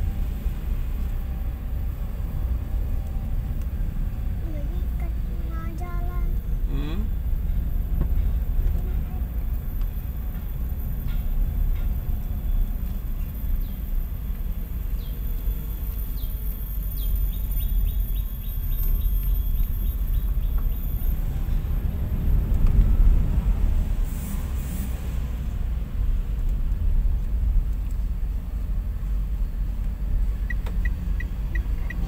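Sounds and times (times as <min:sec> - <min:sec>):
car engine and tyres rumble: 0:00.0 - 0:32.0.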